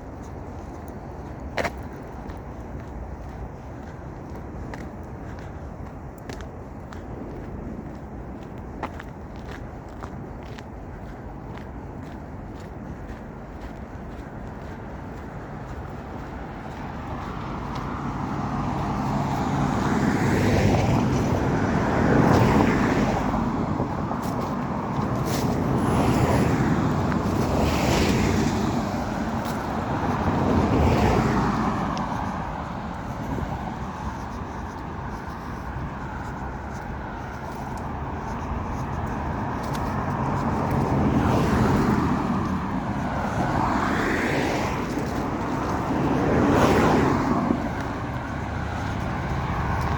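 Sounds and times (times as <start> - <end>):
cars passing: 0.0 - 49.9.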